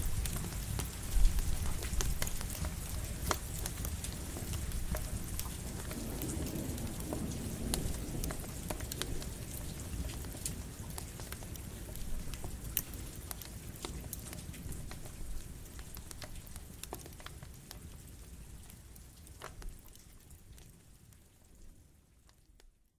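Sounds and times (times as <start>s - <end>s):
campfire crackling: 0.0s - 22.7s
steady rain: 0.0s - 22.9s.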